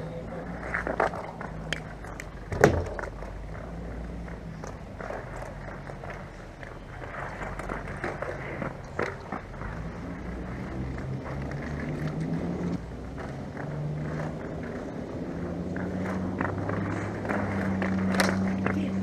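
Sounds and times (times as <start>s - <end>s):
steady low rumble: 0.0s - 19.0s
hockey sticks and ball clacking: 0.5s - 19.0s.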